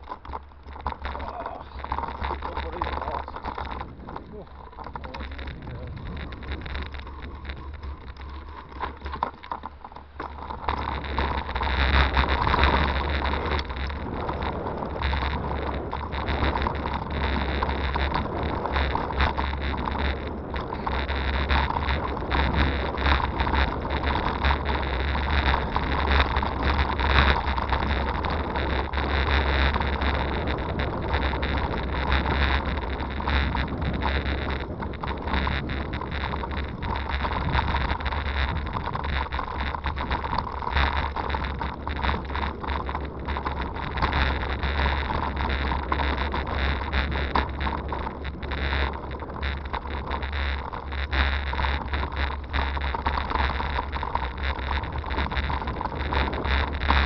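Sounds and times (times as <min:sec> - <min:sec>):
bicycle tyres crunching on gravel: 0:00.0 - 0:57.0
wind rumbling on microphone: 0:00.0 - 0:57.0.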